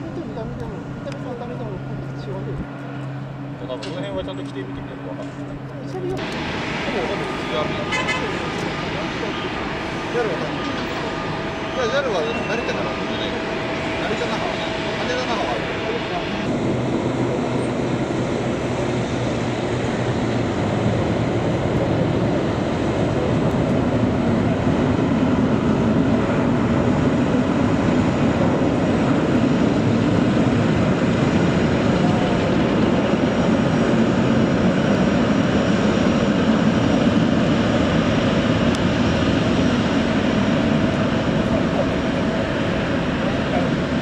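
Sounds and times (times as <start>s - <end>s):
jet engines whining: 0.0s - 44.0s.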